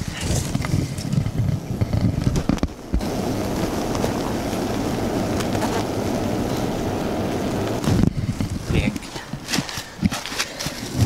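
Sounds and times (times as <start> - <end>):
microphone rubbing and knocking: 0.0 - 6.7, 7.6 - 10.3
honeybee cluster humming: 0.9 - 10.0.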